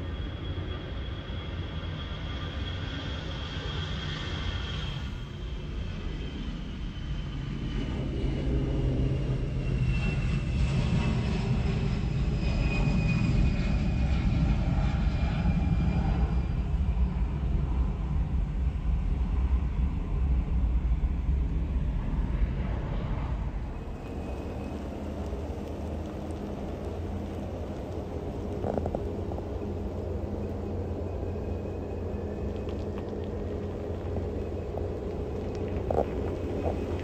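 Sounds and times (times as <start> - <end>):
airplane flying past: 0.0 - 37.0.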